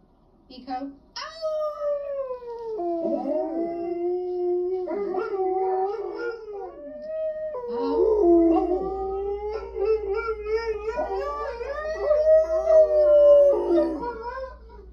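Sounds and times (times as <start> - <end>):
dog howling: 1.3 - 14.9.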